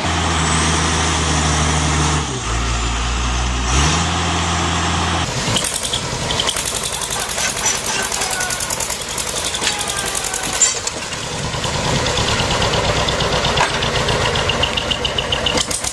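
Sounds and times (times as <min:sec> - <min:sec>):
engine with fast even rattle: 0:00.0 - 0:15.9
heavy machine engine running: 0:00.0 - 0:15.9.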